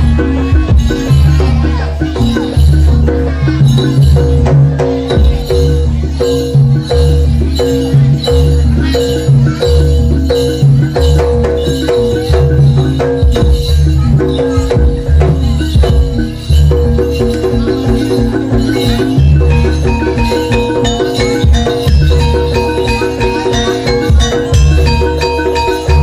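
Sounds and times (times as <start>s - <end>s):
heavy drum strokes: 0.0s - 26.0s
pitched metal percussion: 0.0s - 26.0s.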